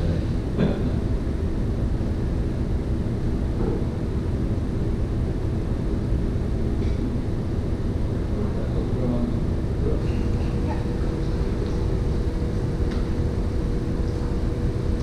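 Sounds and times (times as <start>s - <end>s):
faint constant hum: 0.0s - 15.0s
low machinery rumble: 0.0s - 15.0s.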